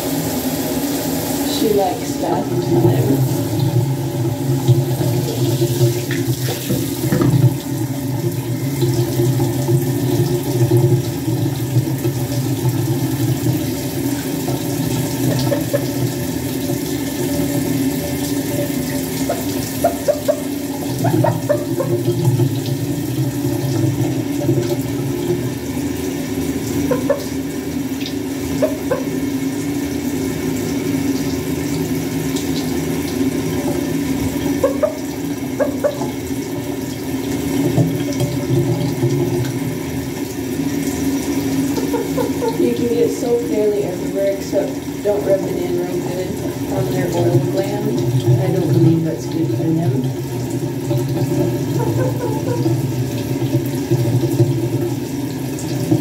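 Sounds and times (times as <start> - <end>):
shower sprayer water splashing: 0.0 - 56.0.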